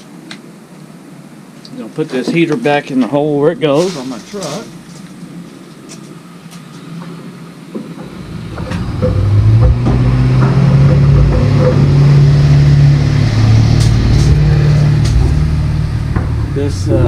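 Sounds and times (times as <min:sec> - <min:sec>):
truck engine humming: 0:03.2 - 0:17.0.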